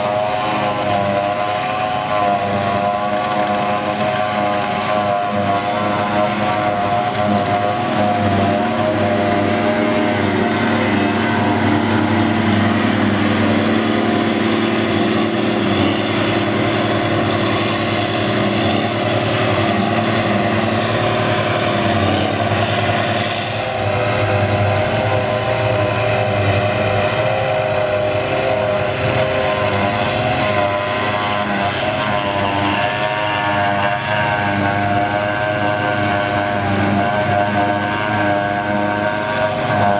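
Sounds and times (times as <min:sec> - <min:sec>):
forage harvester running: 0:00.0 - 0:39.9
tractor running: 0:00.0 - 0:39.9.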